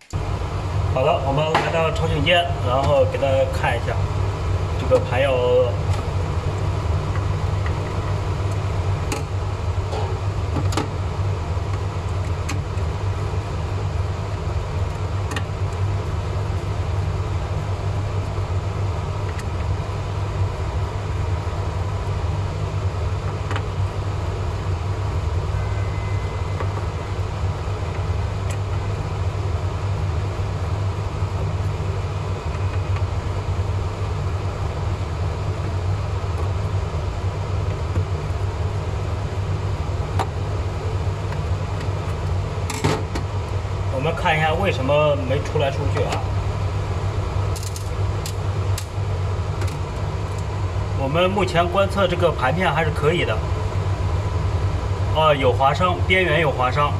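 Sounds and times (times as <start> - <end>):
air filtration fan drone: 0.0 - 56.9.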